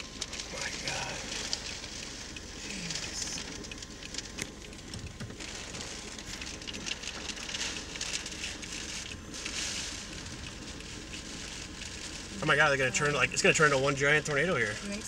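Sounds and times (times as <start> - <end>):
rain hissing: 0.0 - 15.0
raindrop ticks: 0.0 - 15.0.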